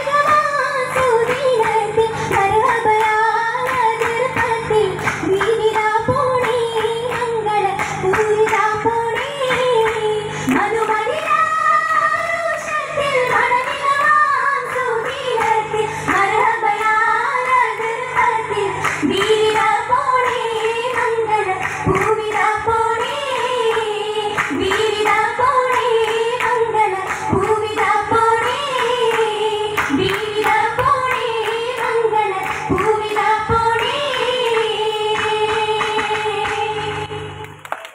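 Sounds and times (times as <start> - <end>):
girls singing together: 0.0 - 37.5
hand claps: 0.0 - 37.9.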